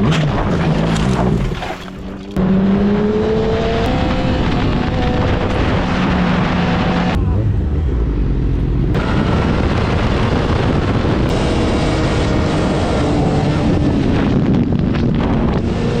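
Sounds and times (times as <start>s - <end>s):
wind noise on microphone: 2.8s - 16.0s.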